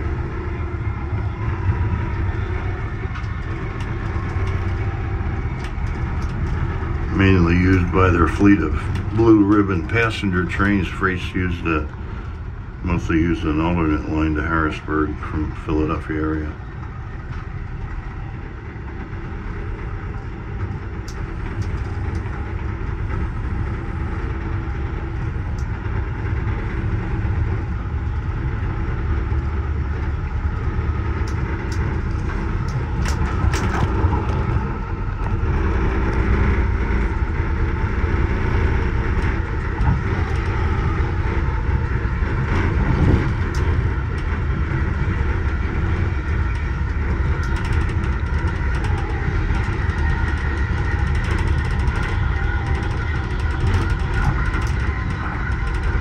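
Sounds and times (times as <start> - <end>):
train wheels rumbling on rails: 0.0 - 56.0
light clicks and rattles: 2.0 - 14.5, 20.6 - 26.8, 29.2 - 56.0.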